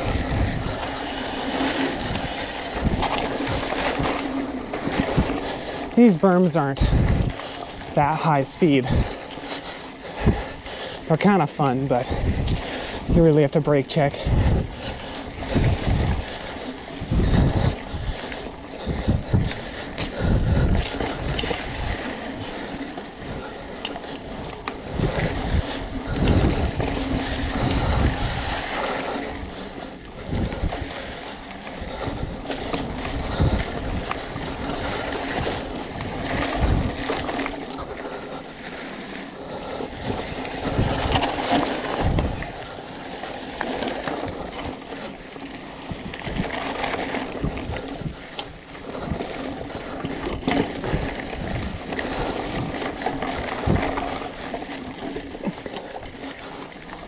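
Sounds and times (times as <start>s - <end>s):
bike clattering over bumps: 0.0s - 8.0s, 14.2s - 57.0s
wind rushing over microphone: 0.0s - 55.5s
bike tyres rolling on dirt: 0.0s - 57.0s.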